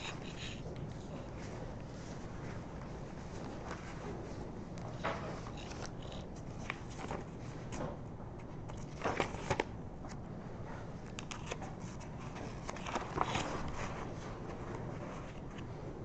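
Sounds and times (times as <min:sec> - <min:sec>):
paper rustling: 0:00.0 - 0:07.9, 0:08.5 - 0:09.7, 0:11.1 - 0:15.7
low room hum: 0:00.0 - 0:16.0.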